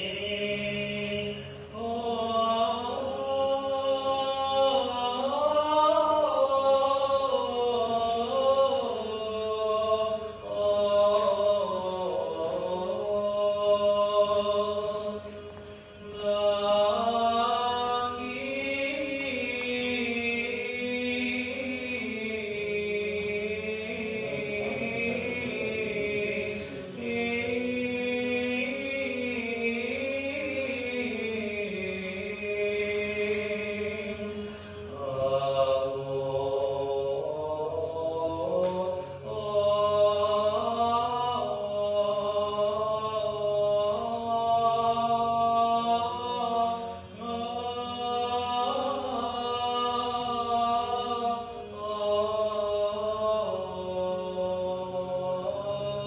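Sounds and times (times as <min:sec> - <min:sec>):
unaccompanied sung chant: 0:00.0 - 0:56.0.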